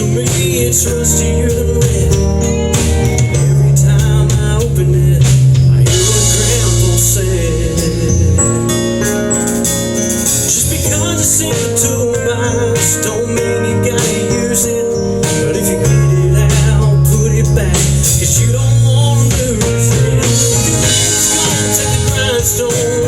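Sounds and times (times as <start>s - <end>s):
bass: 0.0s - 23.0s
drums with cymbal strikes: 0.0s - 23.0s
guitar: 0.0s - 23.0s.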